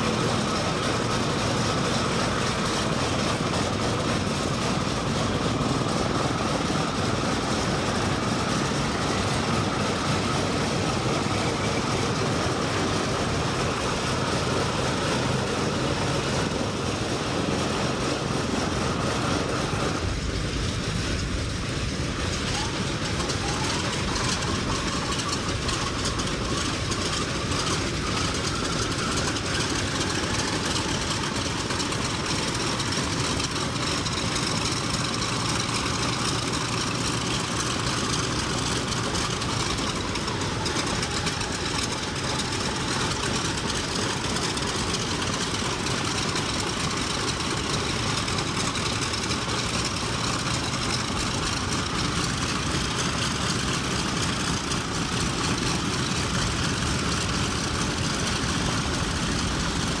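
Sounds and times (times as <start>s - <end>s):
piston aircraft engines running: 0.0s - 60.0s.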